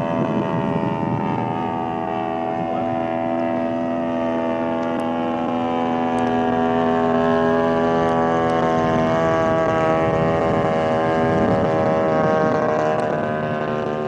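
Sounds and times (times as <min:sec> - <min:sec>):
model plane engine droning: 0:00.0 - 0:14.0.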